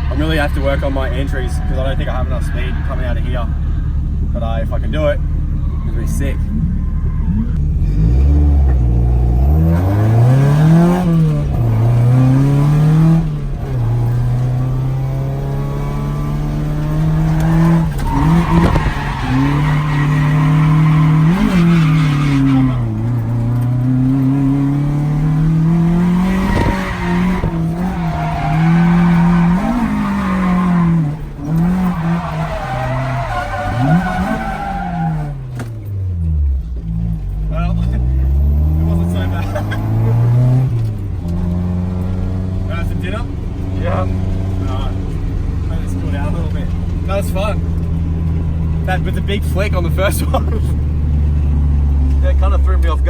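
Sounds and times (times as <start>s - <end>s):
car engine revving hard: 0.0s - 53.0s
tyres squealing: 0.0s - 53.0s.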